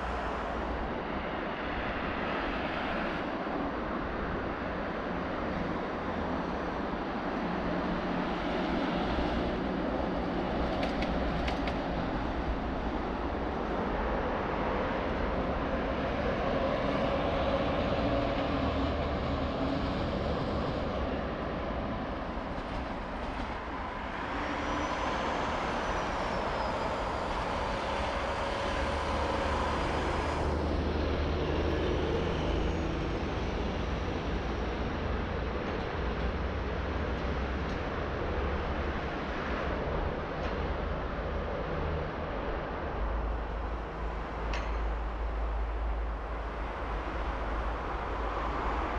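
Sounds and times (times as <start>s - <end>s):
passing road traffic: 0.0s - 48.9s
trams running: 0.0s - 48.9s
wind: 0.0s - 48.9s.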